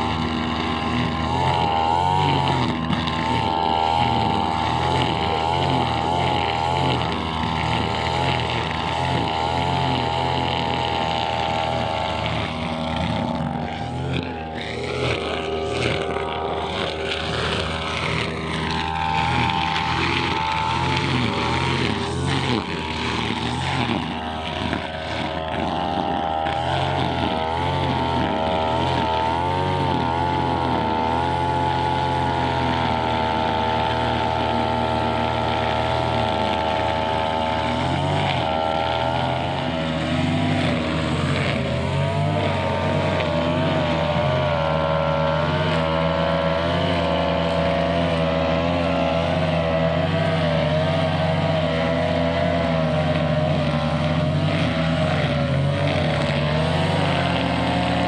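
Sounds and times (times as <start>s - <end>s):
brushcutter engine at high revs: 0.0s - 58.0s.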